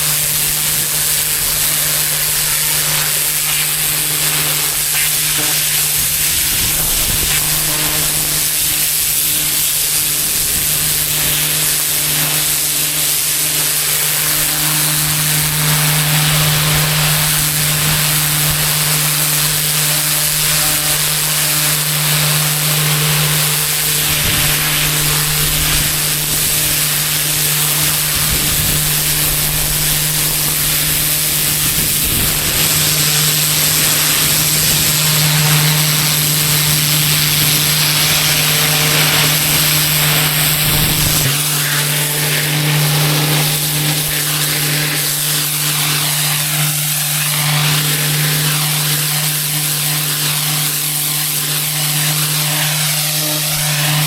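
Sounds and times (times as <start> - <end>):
high-pressure water spray hiss: 0.0 - 54.0
pressure washer pump hum: 0.0 - 54.0.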